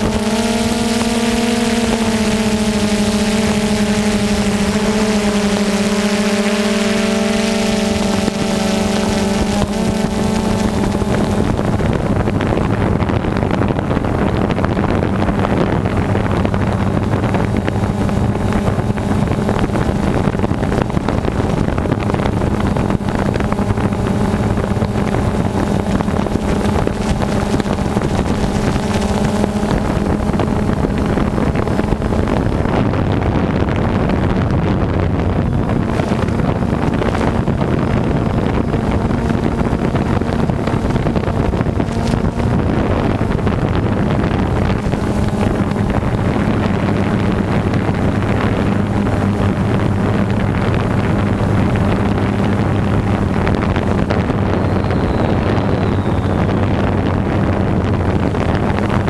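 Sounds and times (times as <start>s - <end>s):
drone propellers humming: 0.0s - 59.0s
wind rushing over microphone: 0.0s - 59.0s.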